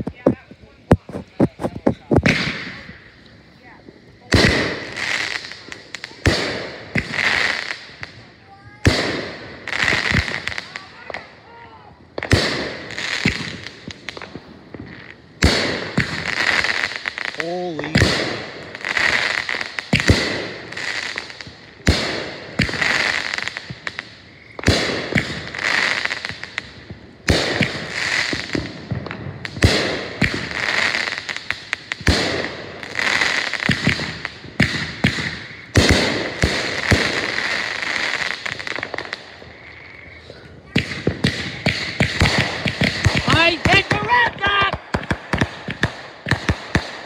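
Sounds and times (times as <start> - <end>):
fireworks bangs: 0.0 - 47.0
fireworks crackling: 0.0 - 47.0.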